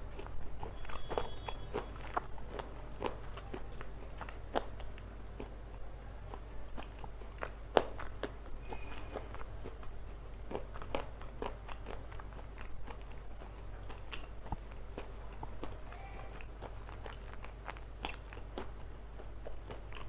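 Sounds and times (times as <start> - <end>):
crunchy chewing: 0.0 - 20.0.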